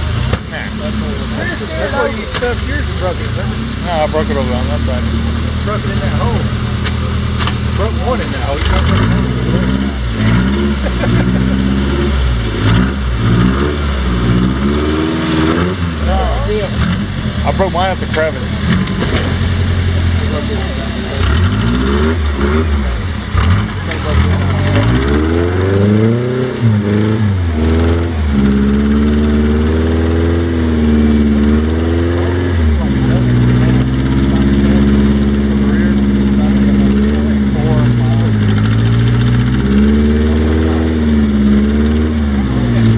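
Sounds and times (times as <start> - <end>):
engine revving: 0.0 - 42.9.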